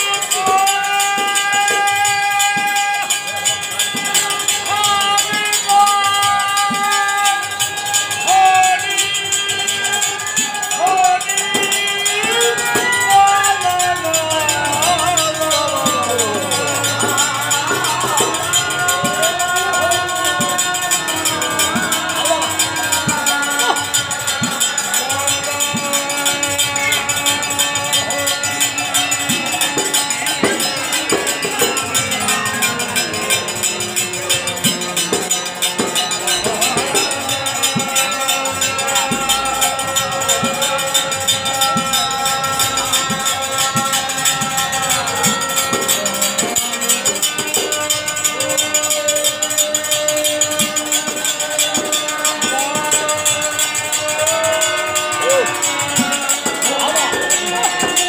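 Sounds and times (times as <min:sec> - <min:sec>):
drum strokes: 0:00.0 - 0:58.0
hand cymbals clashing: 0:00.0 - 0:58.0.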